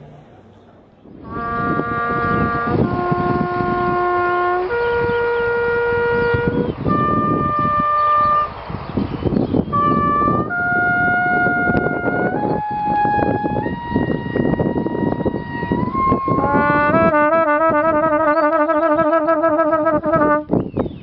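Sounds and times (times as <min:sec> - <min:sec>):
solo trumpet slow melody: 0:01.2 - 0:08.6, 0:09.7 - 0:20.5.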